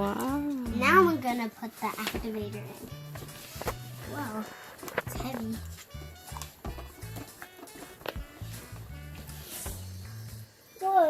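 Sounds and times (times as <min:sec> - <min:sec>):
drum beat: 0:00.0 - 0:01.4, 0:02.2 - 0:10.0.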